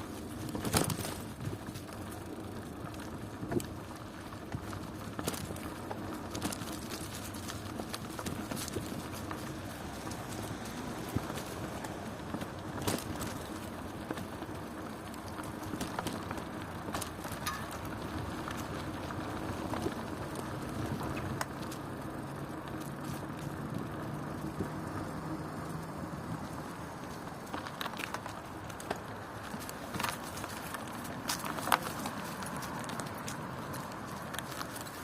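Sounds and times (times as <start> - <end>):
bicycle clicks and rattles: 0.0 - 35.0
bicycle rolling on road: 0.0 - 35.0.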